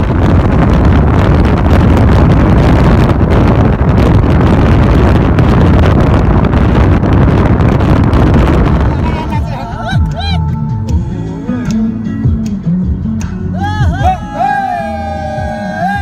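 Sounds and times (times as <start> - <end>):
wind buffeting microphone: 0.0 - 13.0
car driving at speed: 0.0 - 16.0.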